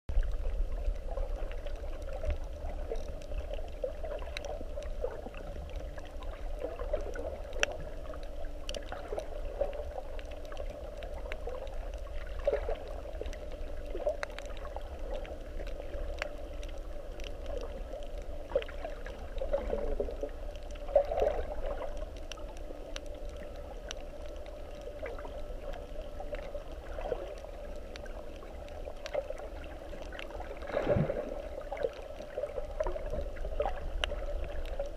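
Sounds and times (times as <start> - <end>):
underwater rumble and hum: 0.0 - 34.9
water gurgling: 0.1 - 34.9.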